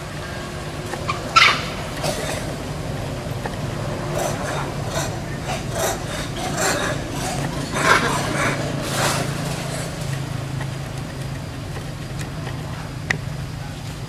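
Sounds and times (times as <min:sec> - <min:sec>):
leaves and branches rustling: 0:00.0 - 0:14.0
steady low hum: 0:00.0 - 0:14.0.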